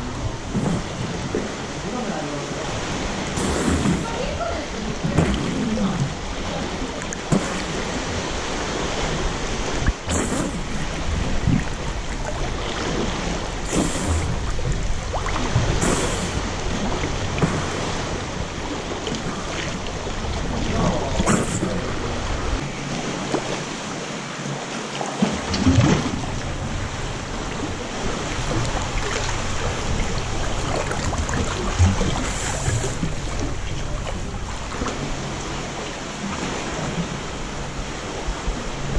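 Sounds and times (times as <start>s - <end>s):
sharp water splashes: 0.0s - 38.2s
small waves washing over rocks: 0.0s - 38.9s
water sloshing and lapping: 0.0s - 38.9s.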